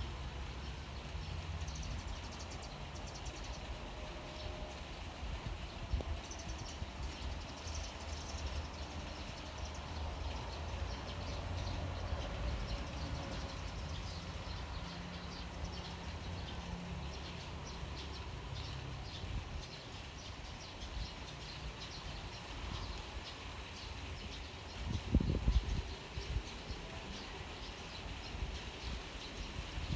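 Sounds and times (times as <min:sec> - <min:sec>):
rain rumble and hiss: 0:00.0 - 0:29.9.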